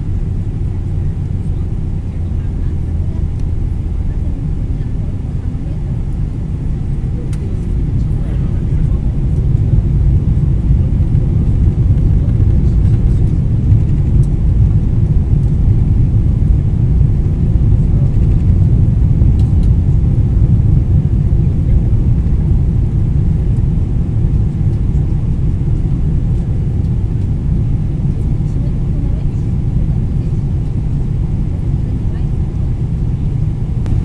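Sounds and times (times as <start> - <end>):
aircraft cabin engine rumble: 0.0 - 34.0.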